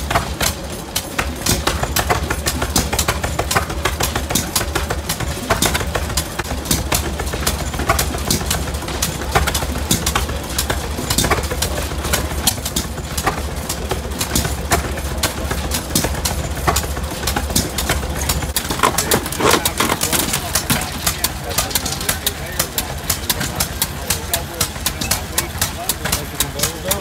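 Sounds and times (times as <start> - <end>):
sharp engine clicks: 0.0 - 27.0
stationary engines humming: 0.0 - 27.0.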